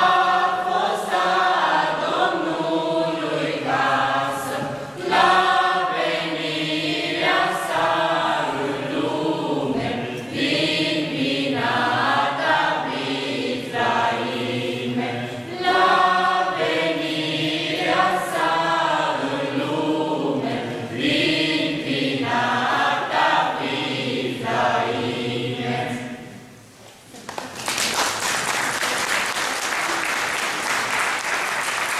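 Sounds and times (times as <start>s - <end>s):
mixed choir singing a carol: 0.0s - 26.7s.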